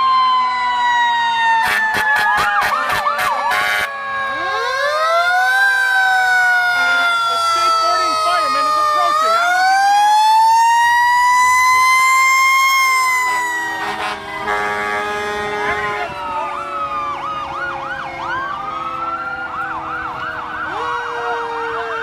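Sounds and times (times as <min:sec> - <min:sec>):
fire engine siren wail: 0:00.0 - 0:22.0
fire engine siren yelp: 0:00.0 - 0:22.0.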